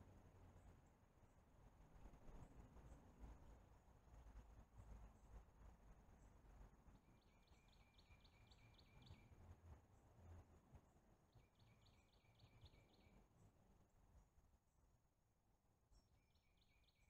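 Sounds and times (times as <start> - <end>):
faint songbird song: 0.0 - 17.0.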